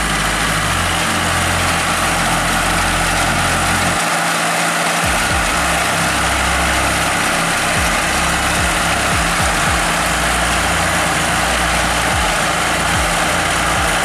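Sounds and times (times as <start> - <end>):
machine engine running: 0.0 - 14.0.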